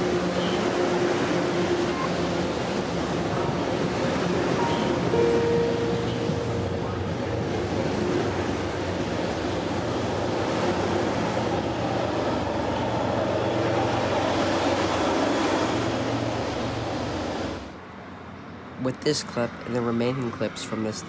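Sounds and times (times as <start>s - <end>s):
rail noise: 0.0s - 19.5s
train passing with engine drone: 0.0s - 21.0s.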